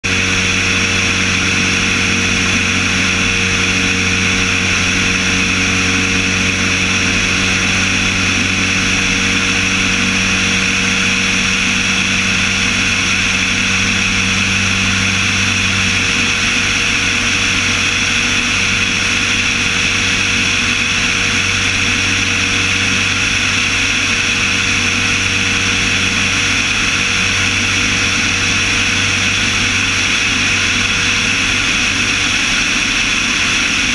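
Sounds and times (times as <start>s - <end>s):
propeller engine drone: 0.0s - 33.9s.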